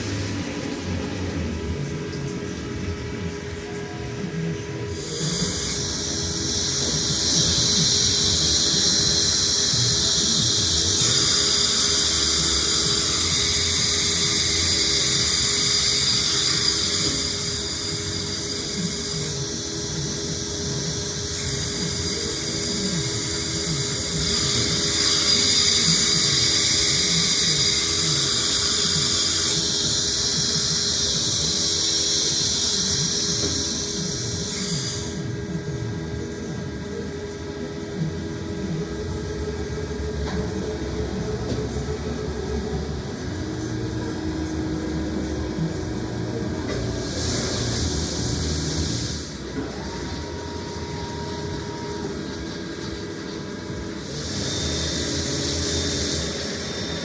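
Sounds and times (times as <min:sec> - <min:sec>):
machining centre running: 0:00.0 - 0:57.0.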